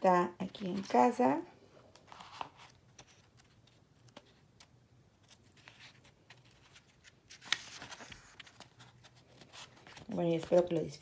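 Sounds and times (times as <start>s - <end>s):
book pages rustling: 1.8s - 11.0s.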